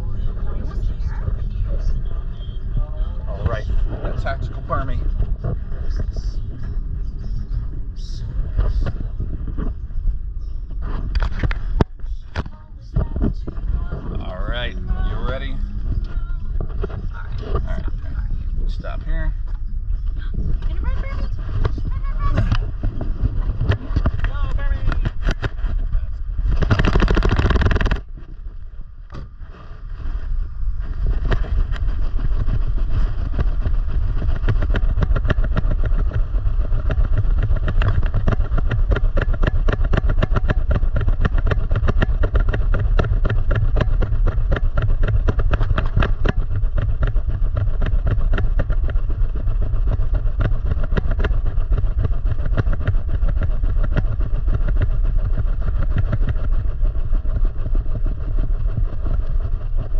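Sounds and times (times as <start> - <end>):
fast continuous rattle: 0.0 - 59.9
heavy rumbling buffeting: 0.0 - 59.9.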